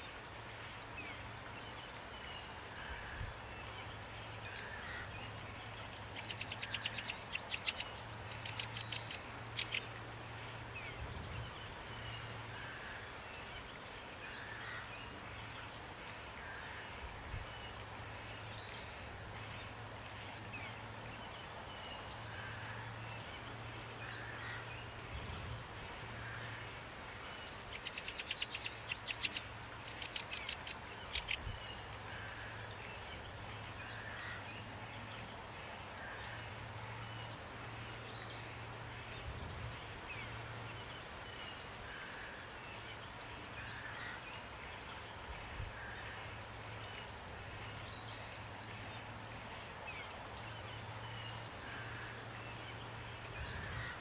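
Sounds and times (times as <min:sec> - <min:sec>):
rain falling: 0:00.0 - 0:54.0
songbirds chirping and trilling: 0:00.0 - 0:54.0.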